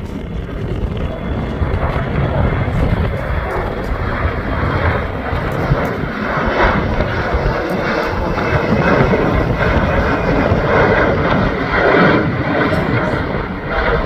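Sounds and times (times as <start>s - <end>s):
jet engines at takeoff: 0.0s - 14.0s
wind buffeting microphone: 0.0s - 14.0s.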